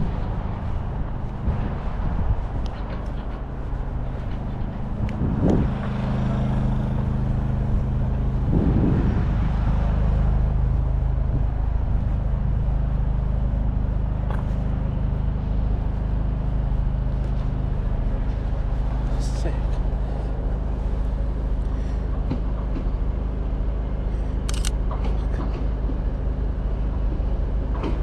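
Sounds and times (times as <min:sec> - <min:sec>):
vehicle engine running: 0:00.0 - 0:27.8.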